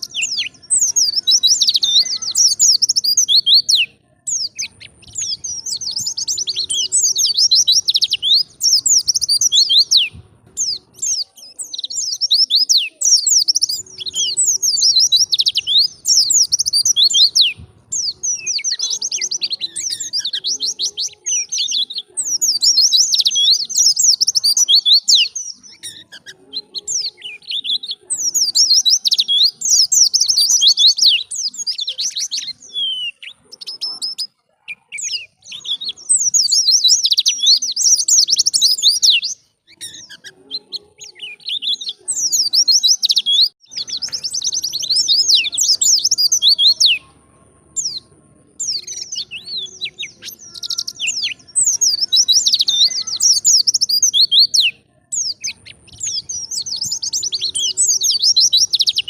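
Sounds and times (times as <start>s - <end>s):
small bird twittering song: 0.0s - 59.0s.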